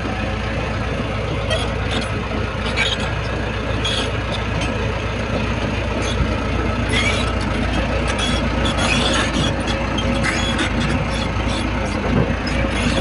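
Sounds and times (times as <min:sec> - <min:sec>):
bulldozer diesel engine rumbling: 0:00.0 - 0:13.0
high metallic squeaks: 0:01.4 - 0:04.9, 0:05.8 - 0:13.0.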